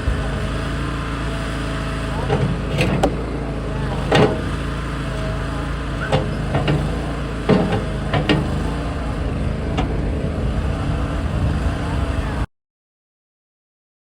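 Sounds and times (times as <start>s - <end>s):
loader engine running: 0.0s - 12.5s.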